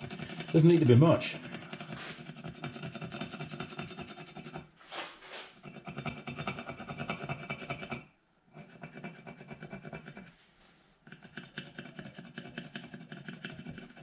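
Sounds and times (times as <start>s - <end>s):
pencil rubbing over tape: 0.0s - 7.9s, 8.6s - 10.4s, 11.1s - 14.0s.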